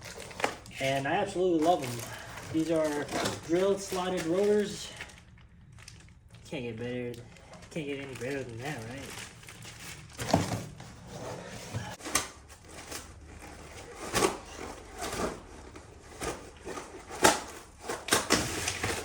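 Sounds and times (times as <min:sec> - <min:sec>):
cardboard packaging rustling: 0:00.0 - 0:19.0.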